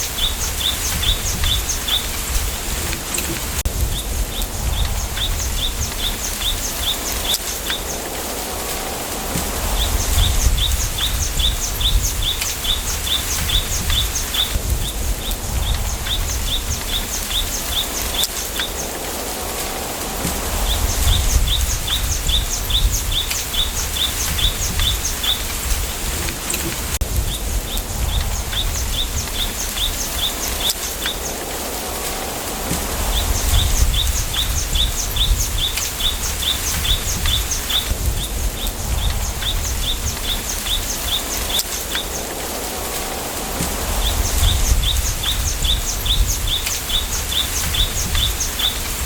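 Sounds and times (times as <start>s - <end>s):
low wind rumble: 0.0s - 49.0s.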